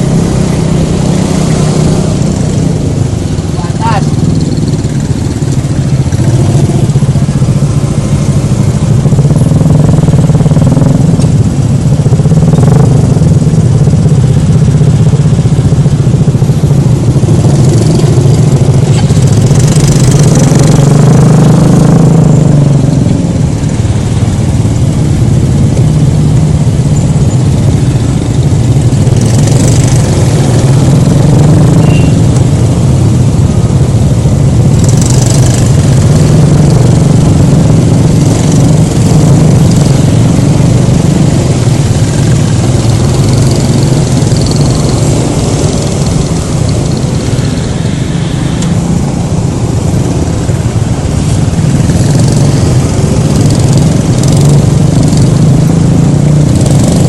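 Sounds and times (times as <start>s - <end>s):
scooter engine running: 0.0s - 21.7s, 22.3s - 57.0s.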